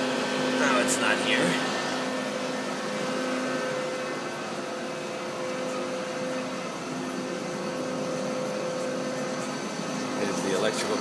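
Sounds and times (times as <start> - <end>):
lathe machine hum: 0.0 - 11.0.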